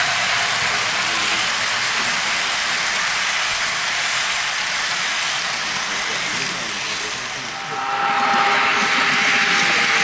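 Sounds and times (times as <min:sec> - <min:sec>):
model train wheels on rails: 0:00.0 - 0:10.0.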